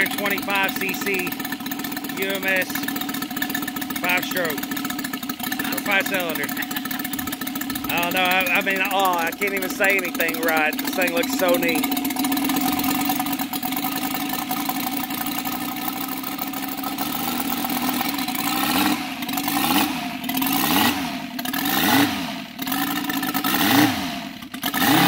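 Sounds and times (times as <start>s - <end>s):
model aircraft engine drone: 0.0s - 25.0s.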